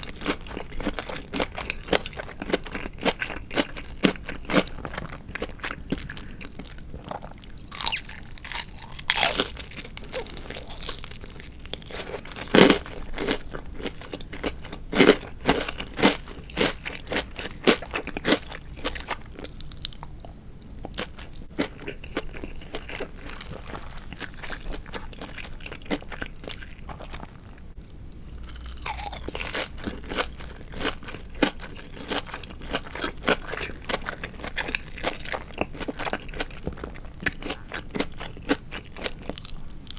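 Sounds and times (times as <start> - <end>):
wet chewing: 0.0 - 20.1, 20.9 - 39.7
crunching fried chicken: 0.0 - 39.9.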